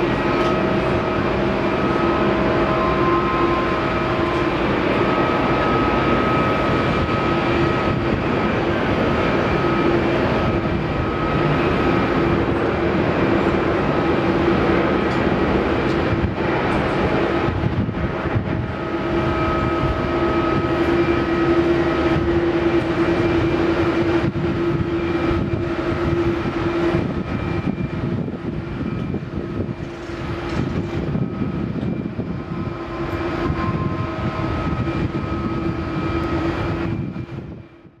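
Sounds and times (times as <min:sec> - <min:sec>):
constant engine whine: 0:00.0 - 0:38.0
jet engines roaring: 0:00.0 - 0:38.0.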